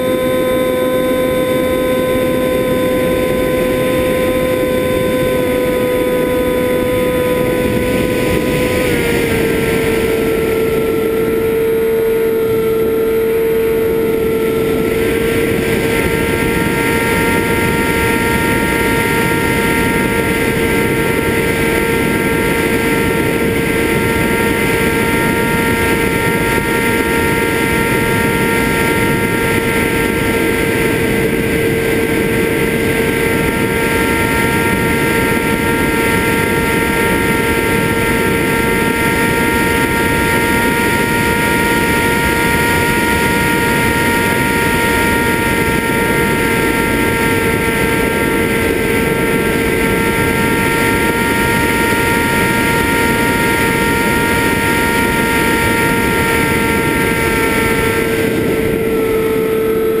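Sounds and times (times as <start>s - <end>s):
quadcopter motors whining: 0.0s - 60.0s
rushing noise: 0.0s - 60.0s.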